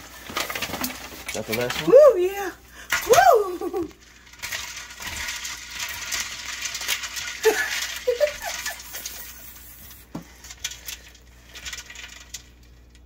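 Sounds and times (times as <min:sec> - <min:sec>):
ice cubes rattling: 0:00.0 - 0:13.0.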